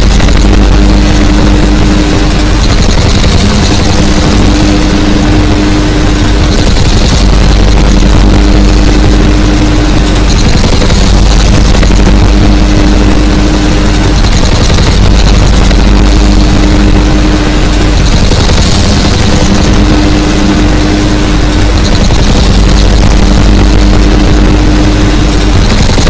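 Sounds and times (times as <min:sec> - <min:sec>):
distorted noise music: 0:00.0 - 0:26.0
low drone with held tones: 0:00.0 - 0:26.0.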